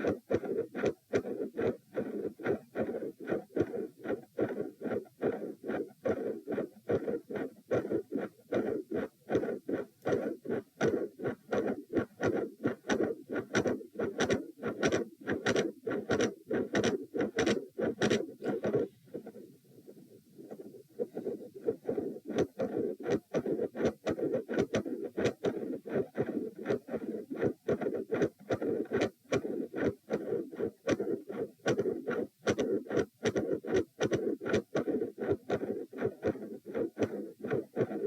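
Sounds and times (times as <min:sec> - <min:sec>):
heartbeats through stethoscope: 0:00.0 - 0:38.0
steady heart murmur noise: 0:00.0 - 0:38.0.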